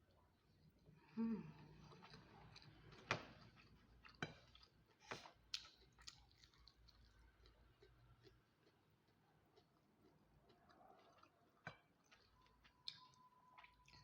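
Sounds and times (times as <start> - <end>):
person chewing food: 1.5 - 14.0.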